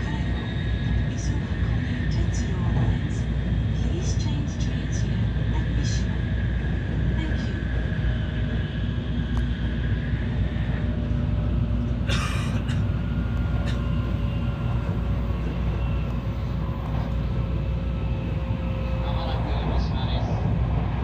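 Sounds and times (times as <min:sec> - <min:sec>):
faint whine: 0:00.0 - 0:21.0
train rumbling on rails: 0:00.0 - 0:21.0.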